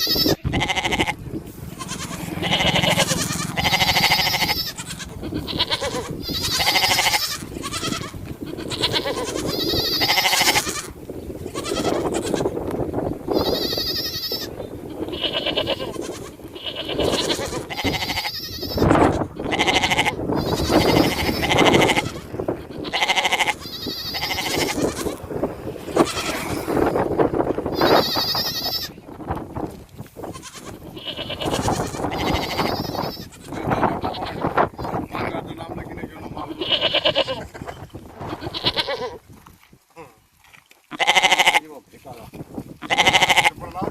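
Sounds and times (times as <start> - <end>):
sheep bleating: 0.0 - 27.0, 27.7 - 29.0, 30.2 - 35.1, 36.3 - 37.6, 38.2 - 39.2, 40.9 - 41.7, 42.8 - 43.9.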